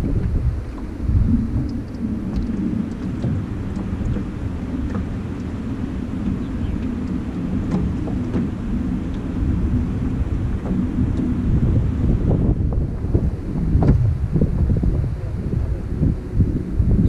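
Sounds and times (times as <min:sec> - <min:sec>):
wind buffeting the microphone: 0:00.0 - 0:17.0.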